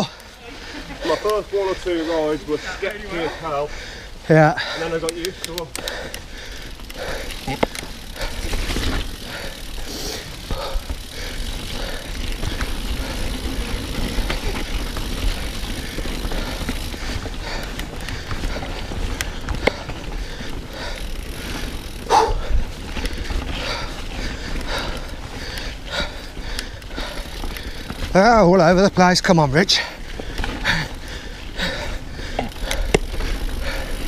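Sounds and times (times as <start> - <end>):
bike tyres on ground: 0.0 - 34.0
bike clicks and knocks: 5.0 - 28.3, 30.0 - 34.0.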